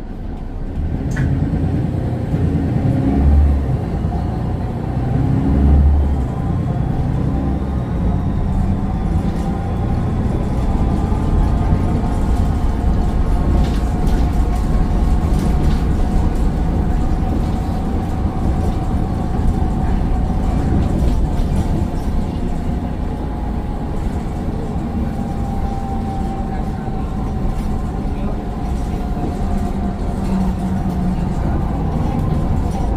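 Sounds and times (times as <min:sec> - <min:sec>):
diesel bus engine rumble: 0:00.0 - 0:32.9.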